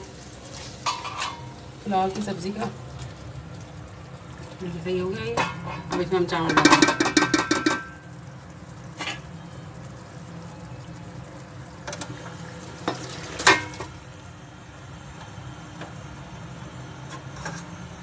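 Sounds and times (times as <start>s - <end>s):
pot sizzling: 0.0s - 18.0s.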